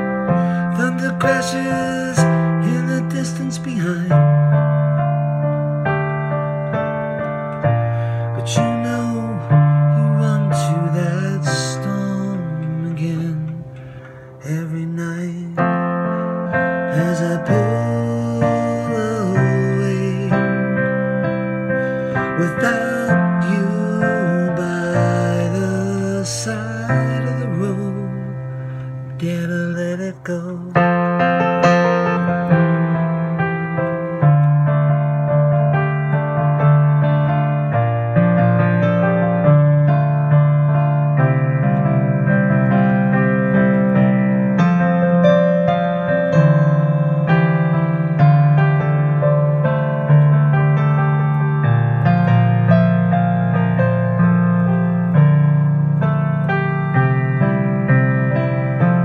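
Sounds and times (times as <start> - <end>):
slow piano piece: 0.0 - 59.0.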